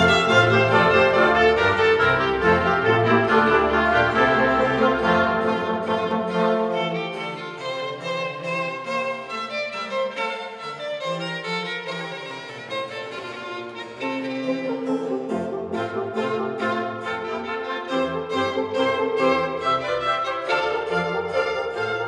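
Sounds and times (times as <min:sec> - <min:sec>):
orchestral strings music: 0:00.0 - 0:22.0.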